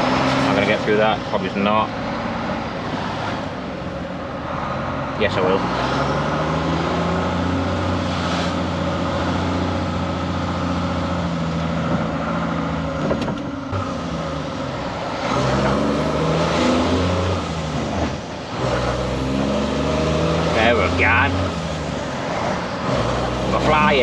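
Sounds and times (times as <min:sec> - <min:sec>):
diesel lorry engine under load: 0:00.0 - 0:24.0.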